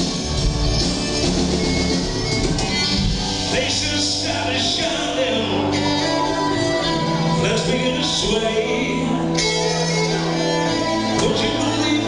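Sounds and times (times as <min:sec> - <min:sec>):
folk band playing live: 0:00.0 - 0:12.0.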